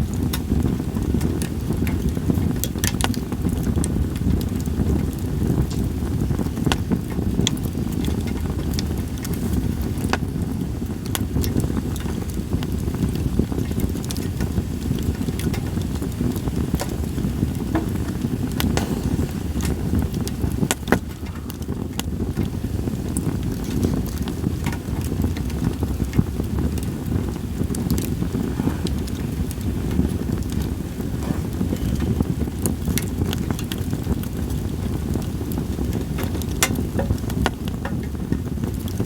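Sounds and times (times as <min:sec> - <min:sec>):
campfire logs crackling and popping: 0:00.0 - 0:39.0
wind rumble on microphone: 0:00.0 - 0:39.0.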